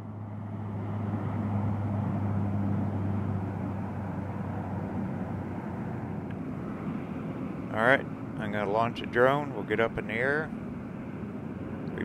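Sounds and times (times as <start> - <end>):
freeway traffic rushing: 0.0 - 12.0
low hum: 0.0 - 12.0.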